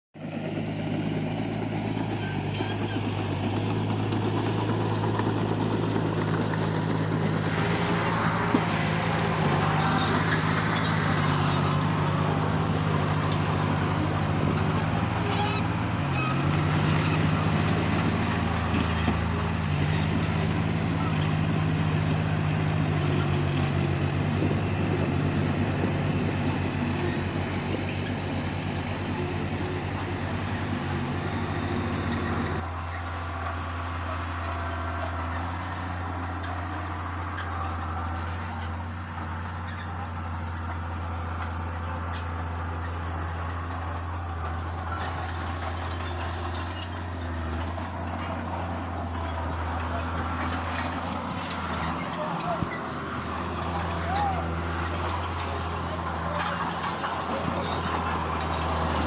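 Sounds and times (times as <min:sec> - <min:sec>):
bulldozer diesel engine running: 0:00.2 - 0:59.0.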